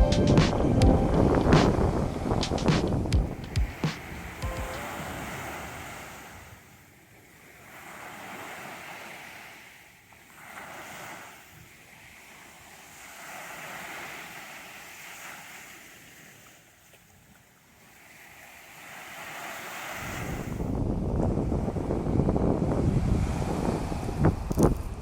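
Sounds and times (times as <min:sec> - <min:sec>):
small waves breaking on sandy shore: 0:01.6 - 0:25.0.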